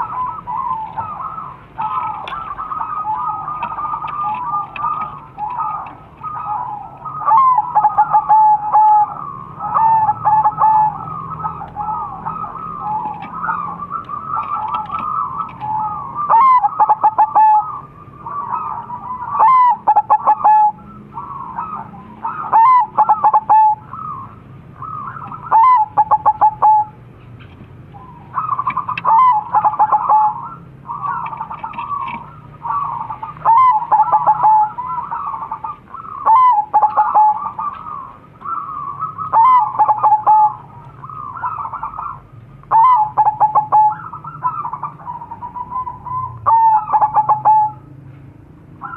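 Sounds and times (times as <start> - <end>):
doves cooing: 0.0 - 48.9.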